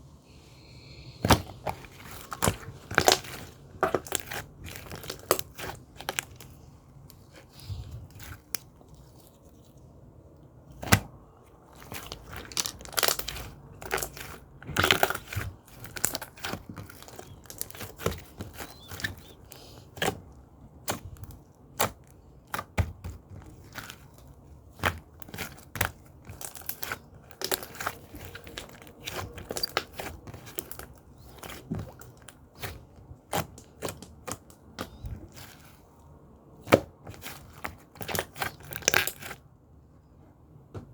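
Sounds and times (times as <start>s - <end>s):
slime squished by hand: 1.1s - 9.8s, 10.7s - 39.4s.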